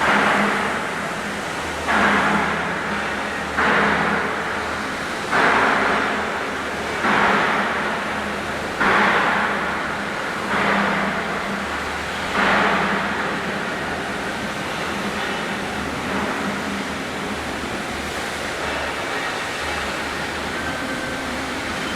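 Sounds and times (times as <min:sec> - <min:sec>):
factory machinery humming: 0:00.0 - 0:21.9.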